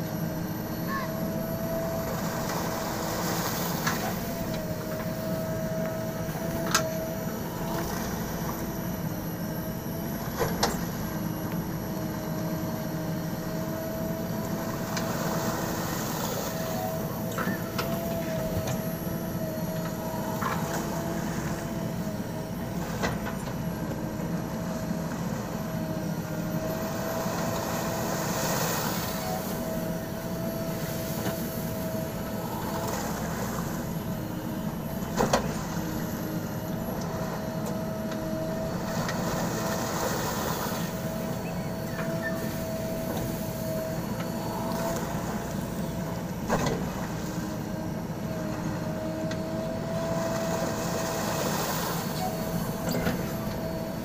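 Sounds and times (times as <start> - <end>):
diesel engine running with whine: 0.0 - 54.0.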